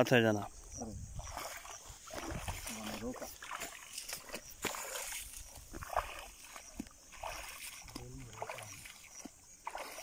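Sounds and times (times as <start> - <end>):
footsteps splashing through wet grass: 1.1 - 10.0.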